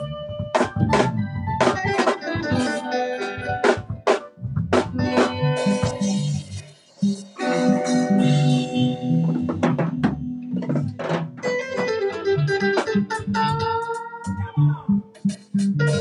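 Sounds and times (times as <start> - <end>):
bass line: 0.0 - 2.8, 3.4 - 11.4, 12.3 - 16.0
drum kit: 0.0 - 16.0
electric guitar: 0.0 - 16.0.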